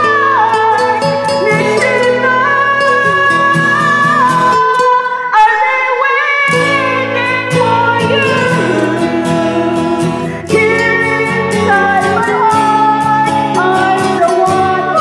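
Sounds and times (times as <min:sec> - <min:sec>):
instrumental backing track: 0:00.0 - 0:05.3, 0:06.5 - 0:15.0
woman singing a ballad: 0:00.0 - 0:15.0.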